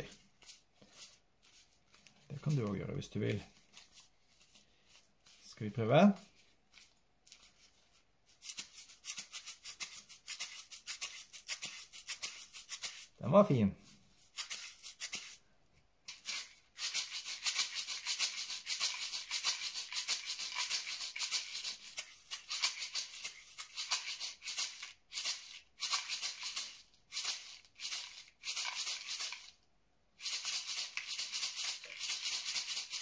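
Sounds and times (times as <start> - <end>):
paper tube maraca rattling: 0.0 - 15.4, 16.0 - 29.6, 30.2 - 33.0.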